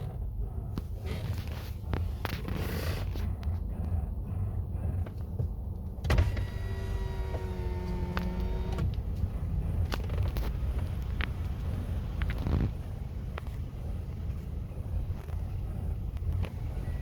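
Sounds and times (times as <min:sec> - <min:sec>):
low steady rumble: 0:00.0 - 0:17.0
suspension squeaking: 0:00.0 - 0:17.0.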